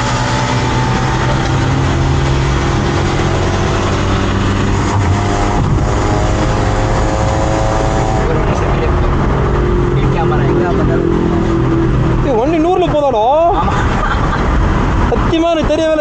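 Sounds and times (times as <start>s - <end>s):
vehicle engine running: 0.0s - 13.2s
road and wind noise: 0.0s - 16.0s.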